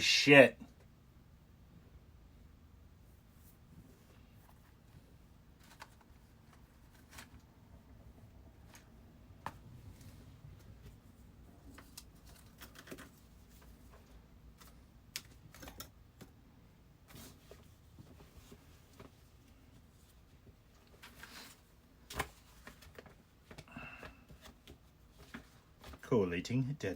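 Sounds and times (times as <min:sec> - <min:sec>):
low room hum: 0:00.0 - 0:26.9.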